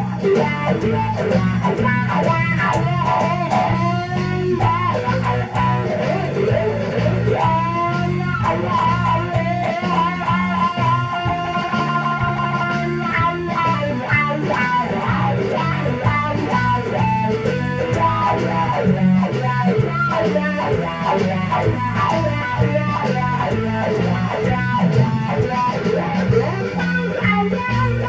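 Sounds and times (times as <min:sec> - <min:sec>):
electric guitar fast picked notes: 0:00.0 - 0:28.0
steady bass line: 0:00.0 - 0:28.0.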